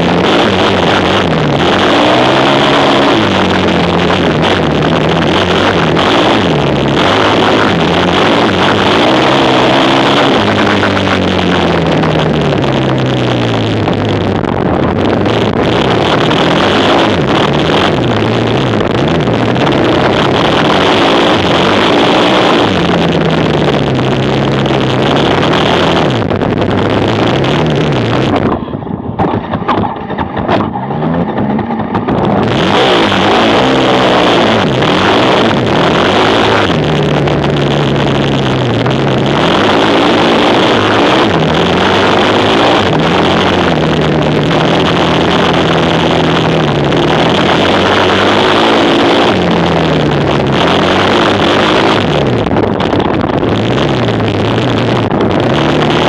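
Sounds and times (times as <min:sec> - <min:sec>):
quad bike engines revving: 0:00.0 - 0:56.0.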